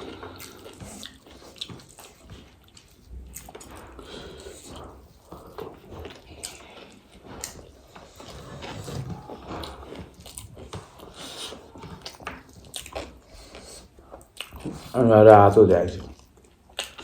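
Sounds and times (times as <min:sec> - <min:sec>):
wet mouth sounds: 0:00.0 - 0:15.0, 0:16.0 - 0:17.0.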